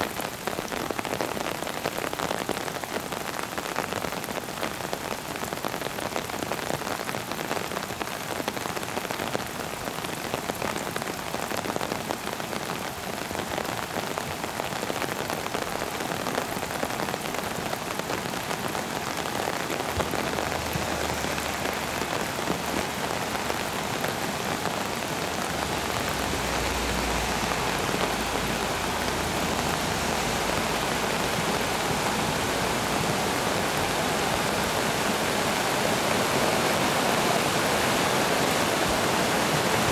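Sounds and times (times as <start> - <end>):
floodwater rushing over boulders: 0.0 - 39.9.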